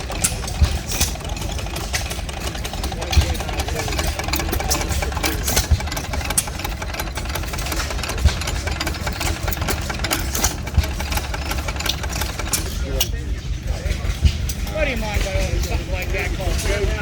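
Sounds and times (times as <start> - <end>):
stationary engines clattering: 0.0 - 17.0.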